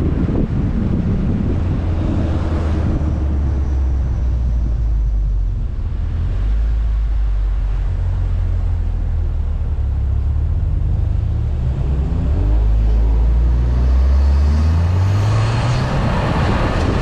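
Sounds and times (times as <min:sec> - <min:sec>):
car engine droning while driving: 0:00.0 - 0:17.0.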